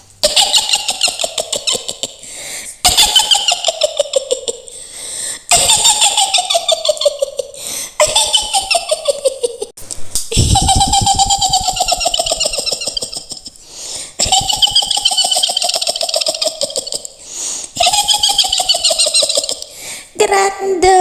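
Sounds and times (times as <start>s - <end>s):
high cackling witch laugh: 0.2s - 9.7s, 10.3s - 19.8s.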